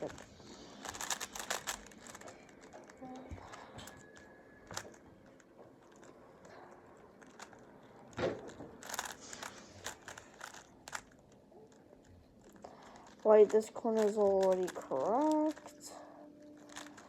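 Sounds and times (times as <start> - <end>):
plastic puzzle cube clicking: 0.0 - 17.0.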